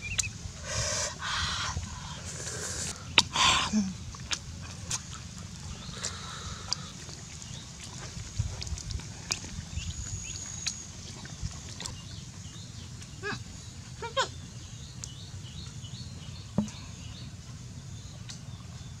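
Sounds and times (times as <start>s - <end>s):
birds chirping: 0.0s - 8.2s, 9.7s - 19.0s.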